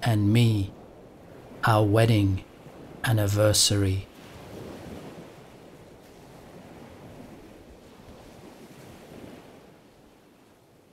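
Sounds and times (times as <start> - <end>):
ocean surf washing onto beach: 0.0 - 10.9.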